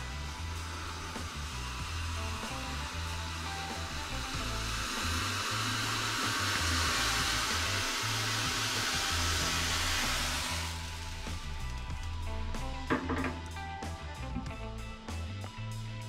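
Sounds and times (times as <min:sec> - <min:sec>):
gas stove burner hissing: 0:00.0 - 0:14.3
background music bass line: 0:00.0 - 0:16.0.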